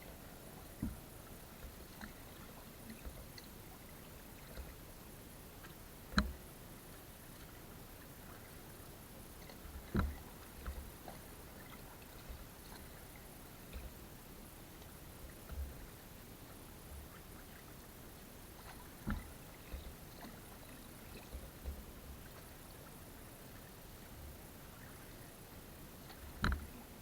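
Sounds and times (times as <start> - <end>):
water lapping around raft: 0.0 - 27.0.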